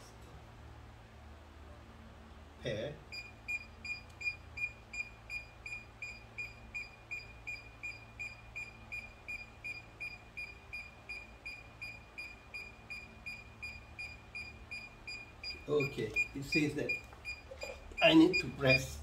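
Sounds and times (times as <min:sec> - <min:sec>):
remote controller beeping: 0:03.1 - 0:19.0.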